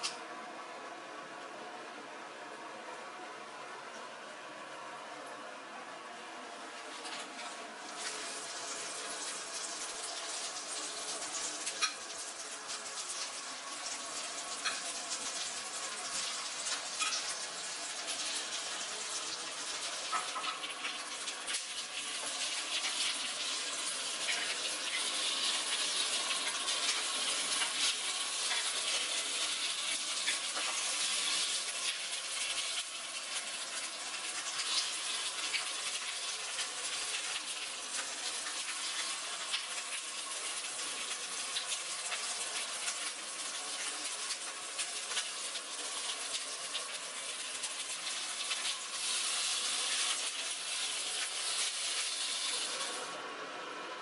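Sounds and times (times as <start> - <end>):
food sizzling in a pan: 6.9 - 53.8.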